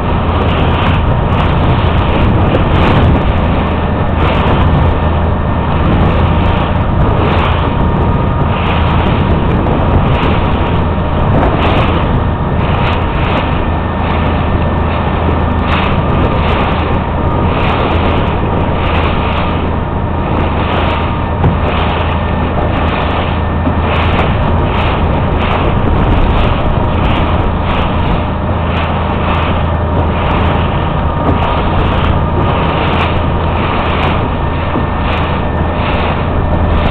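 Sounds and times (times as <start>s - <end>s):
motorboat engine running: 0.0s - 36.9s
water rushing past hull: 0.0s - 36.9s.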